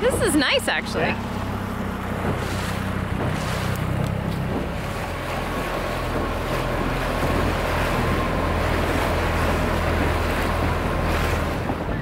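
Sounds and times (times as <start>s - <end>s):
outboard motor running: 0.0s - 12.0s
water rushing past: 0.0s - 12.0s
wind on microphone: 2.1s - 12.0s.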